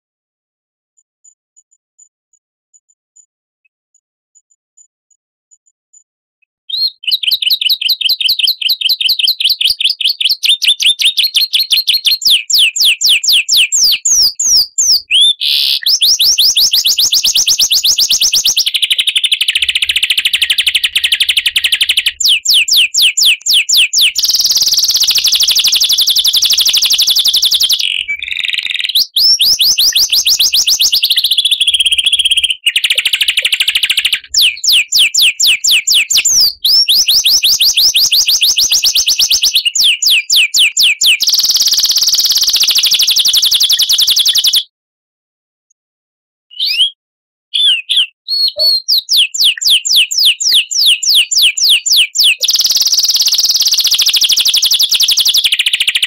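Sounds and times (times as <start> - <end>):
songbird trilling: 6.7 - 44.6, 47.6 - 55.8.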